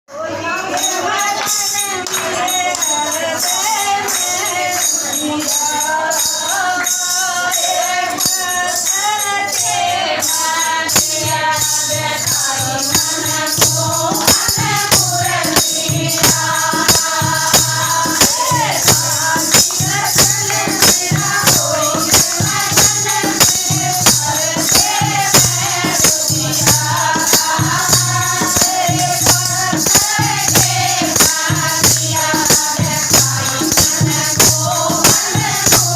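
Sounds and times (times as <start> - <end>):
jingling hand percussion: 0.1 - 35.9
group singing devotional song: 0.2 - 35.9.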